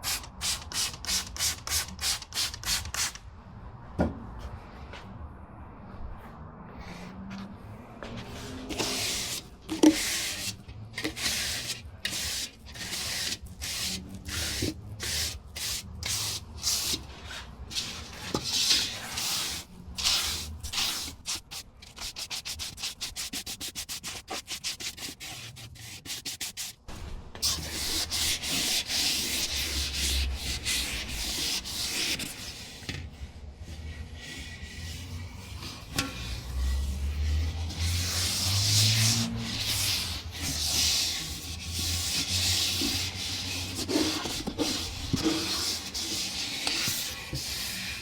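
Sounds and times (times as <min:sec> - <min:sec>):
sandpaper rasping: 0:00.0 - 0:03.2, 0:08.3 - 0:26.8, 0:27.4 - 0:32.8, 0:33.8 - 0:48.0.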